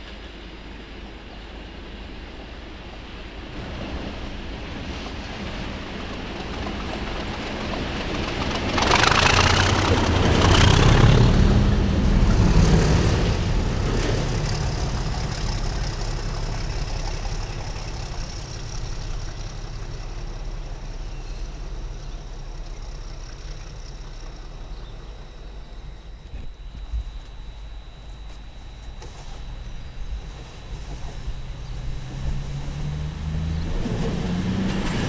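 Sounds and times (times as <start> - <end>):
low engine drone: 0.0 - 35.0
train passing: 0.0 - 35.0.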